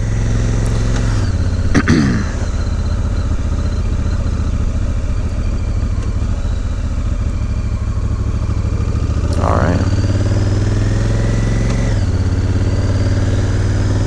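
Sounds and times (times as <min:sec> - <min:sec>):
motorcycle engine pulling away: 0:00.0 - 0:14.0.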